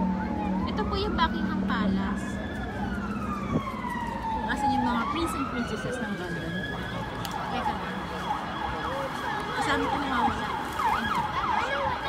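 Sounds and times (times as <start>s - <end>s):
emergency siren wailing and yelping: 0.0s - 12.0s.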